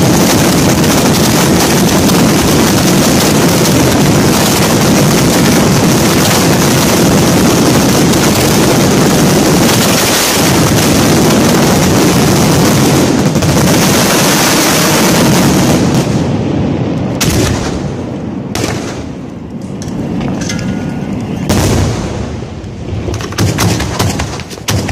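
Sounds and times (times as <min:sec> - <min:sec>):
fireworks bangs: 0:00.0 - 0:24.9.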